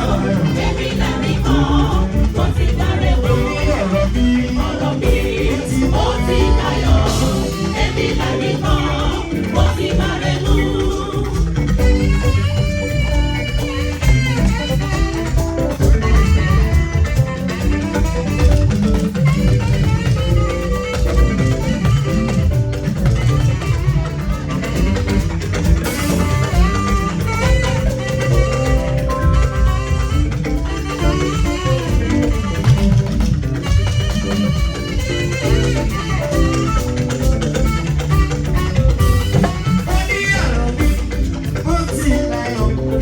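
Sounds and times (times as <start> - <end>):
live band with guitar and drums: 0.0 - 43.0.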